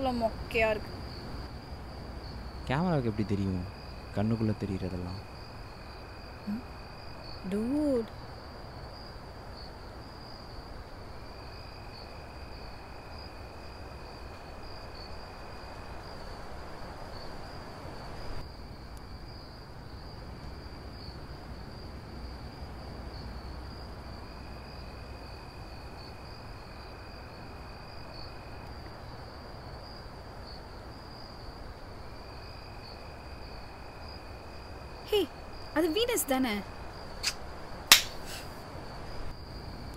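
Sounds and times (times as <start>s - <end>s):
crickets trilling: 0.0s - 39.9s
faint background hiss: 0.0s - 39.9s
lower-pitched insect trill: 0.0s - 39.9s.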